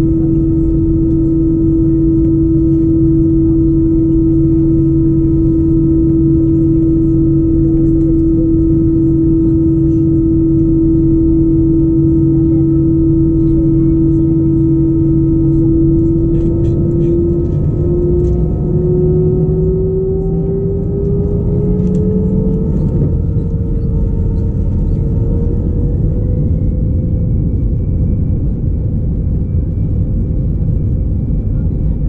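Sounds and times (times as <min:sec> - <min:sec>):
higher whine climbing: 0:00.0 - 0:32.0
jet engines roaring: 0:00.0 - 0:32.0
rising engine whine: 0:00.0 - 0:32.0.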